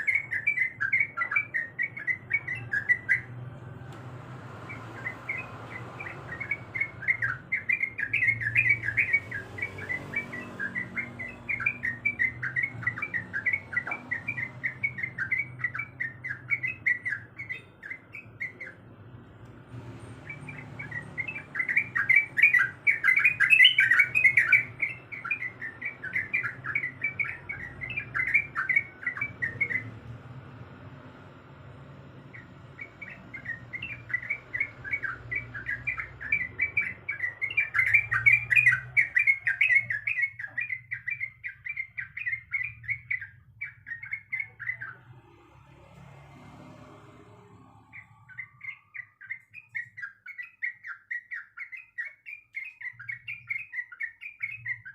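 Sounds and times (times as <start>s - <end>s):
bird singing bubbling chirps: 0.0s - 3.5s, 5.0s - 18.8s, 20.2s - 30.0s, 32.3s - 45.1s, 47.9s - 54.9s.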